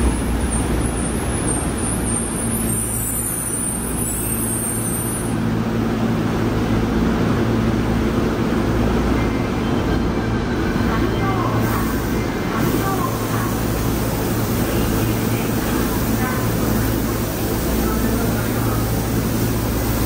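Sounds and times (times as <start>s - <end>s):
subway train rumbling on rails: 0.0s - 20.0s.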